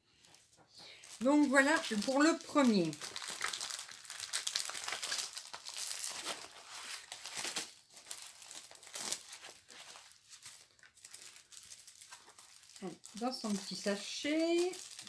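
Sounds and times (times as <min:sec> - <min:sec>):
plastic bag crinkling: 0:00.8 - 0:15.0.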